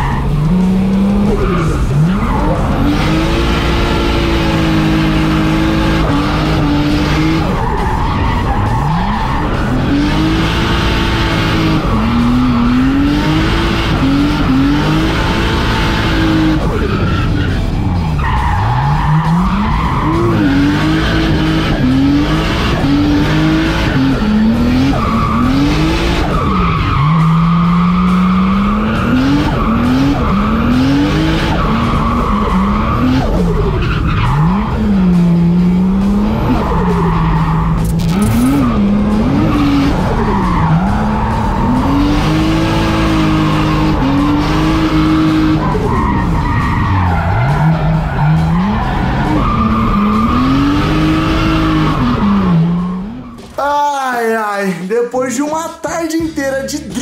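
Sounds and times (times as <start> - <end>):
car engine revving: 0.0 - 53.6
tires squealing: 0.0 - 57.0.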